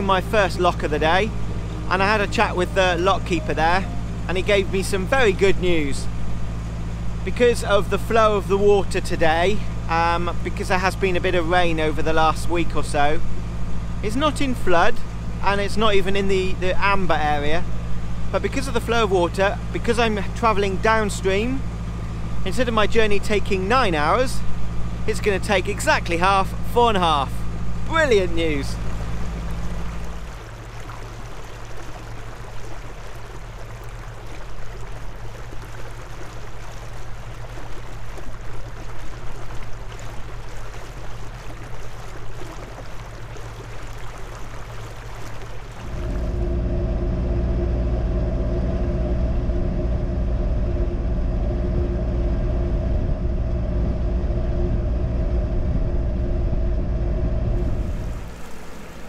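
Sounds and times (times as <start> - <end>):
diesel boat engine hum: 0.0 - 59.0
rushing water noise: 0.0 - 59.0.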